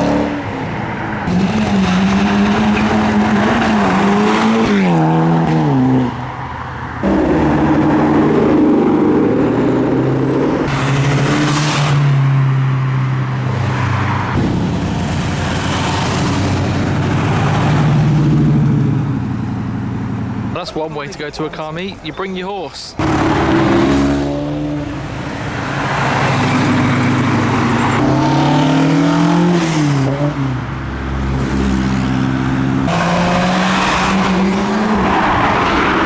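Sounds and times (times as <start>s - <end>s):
cars driving past: 0.0s - 36.0s.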